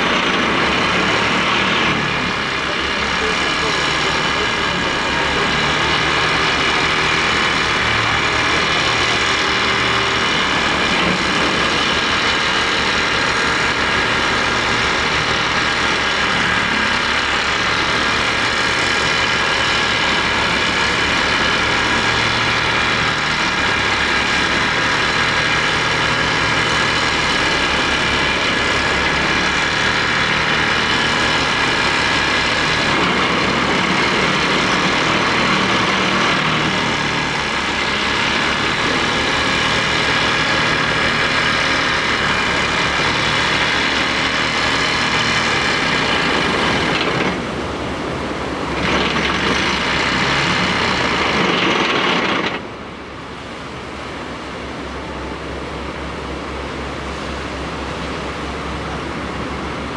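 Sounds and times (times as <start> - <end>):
excavator engine vibrating: 0.0 - 59.9.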